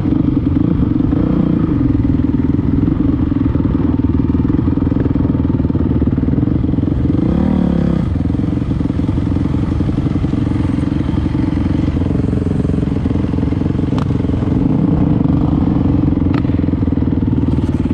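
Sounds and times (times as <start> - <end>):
dirt bike engine running: 0.0 - 17.9.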